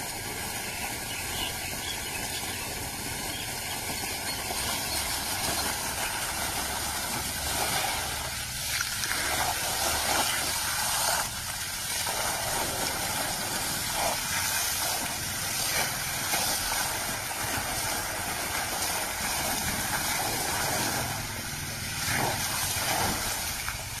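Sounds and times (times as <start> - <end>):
water jet hissing: 0.0 - 24.0
water splashing on wet ground: 0.0 - 24.0.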